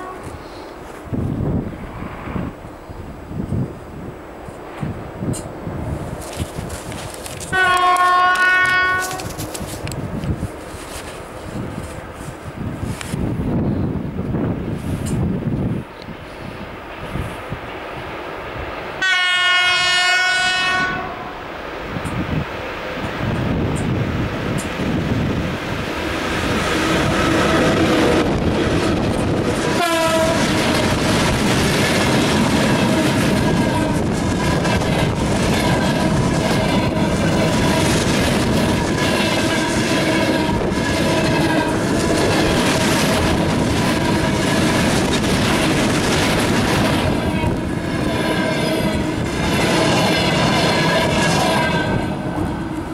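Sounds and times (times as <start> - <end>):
electric locomotive passing: 0.0 - 52.9.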